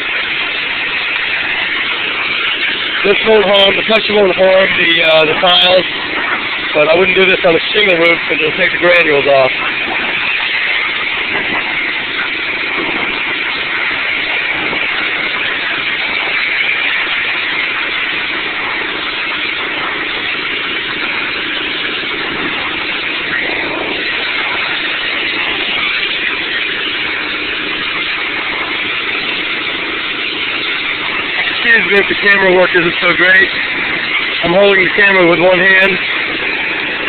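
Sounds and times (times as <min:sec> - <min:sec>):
pressure washer spray on roof tiles: 0:00.0 - 0:37.0.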